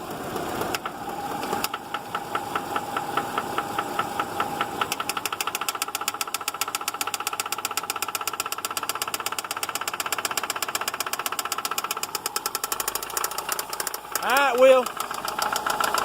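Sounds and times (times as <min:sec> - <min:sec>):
car engine knocking: 0:00.4 - 0:16.0.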